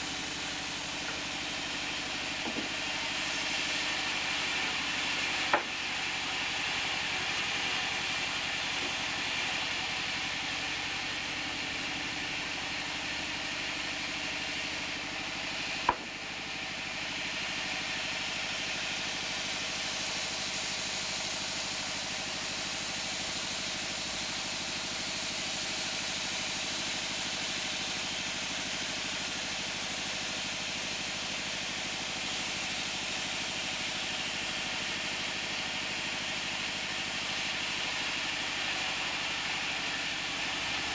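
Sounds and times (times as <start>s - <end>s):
band sawmill running: 0.0s - 40.9s.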